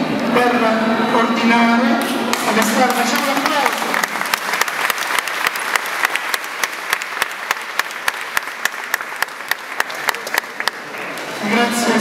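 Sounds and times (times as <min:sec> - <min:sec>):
crowd applauding: 0:02.0 - 0:12.0.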